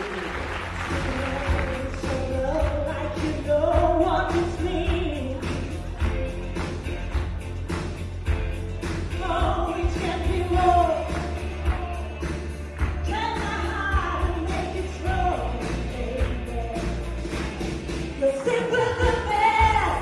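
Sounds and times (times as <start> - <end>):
backing track with heavy bass: 0.0 - 20.0
woman singing pop song: 0.6 - 6.5, 9.1 - 20.0.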